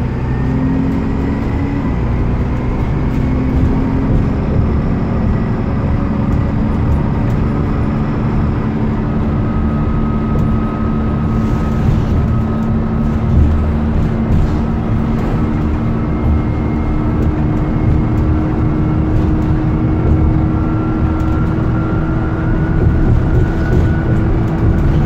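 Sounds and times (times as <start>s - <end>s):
bus engine drone: 0.0s - 25.0s
road rumble: 0.0s - 25.0s
thin whine: 0.0s - 25.0s.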